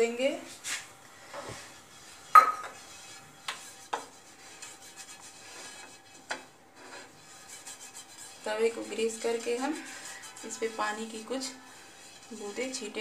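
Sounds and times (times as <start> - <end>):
brush rubbing oil on griddle: 0.5 - 13.0.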